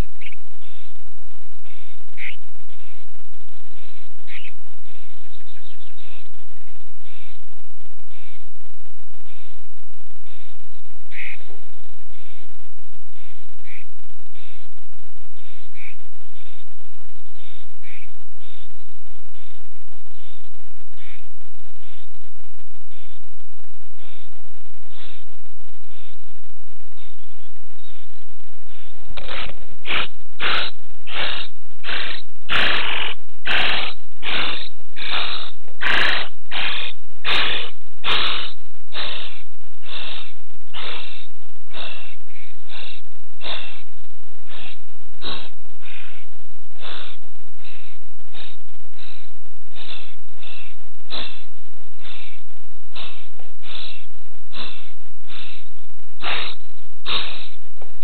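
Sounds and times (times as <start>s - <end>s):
nestlings raspy calls: 0.0s - 0.9s, 1.6s - 3.1s, 3.7s - 7.4s, 8.1s - 8.4s, 10.2s - 14.7s, 15.3s - 16.7s, 17.3s - 22.1s, 24.0s - 24.3s, 24.9s - 25.3s, 28.7s - 57.6s.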